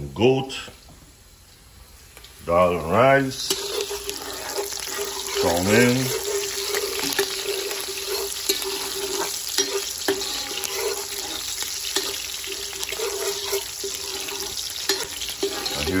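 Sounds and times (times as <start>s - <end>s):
onion and garlic sizzling in oil: 1.1s - 16.0s.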